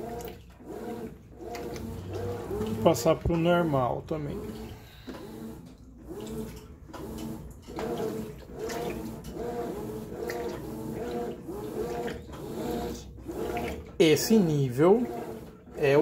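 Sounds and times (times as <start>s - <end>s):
washing machine motor humming: 0.0s - 16.0s
water sloshing in tub: 0.0s - 16.0s.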